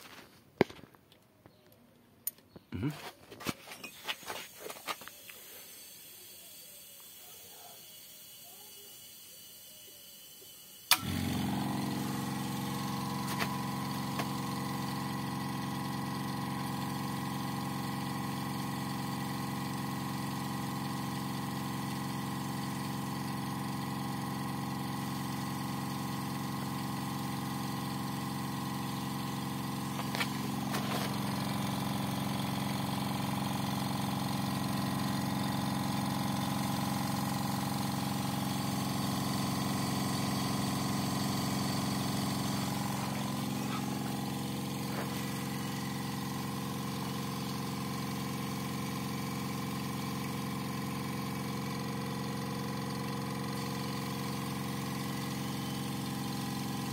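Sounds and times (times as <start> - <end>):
air compressor humming: 2.7 - 56.9.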